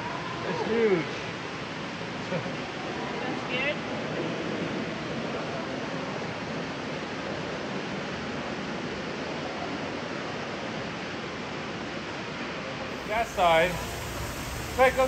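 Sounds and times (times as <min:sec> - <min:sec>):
indoor rushing background noise: 0:00.0 - 0:15.0.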